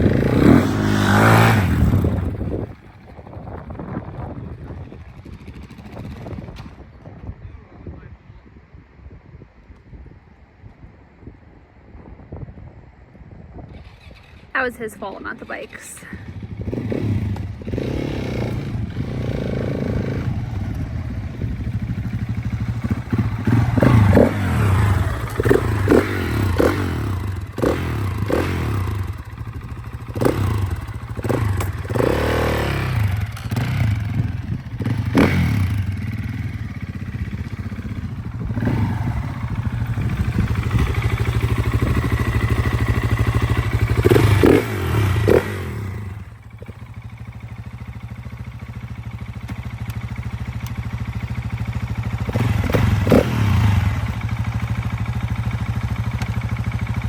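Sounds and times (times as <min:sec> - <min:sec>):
motorcycle engine revving: 0:00.0 - 0:06.9, 0:13.7 - 0:57.0.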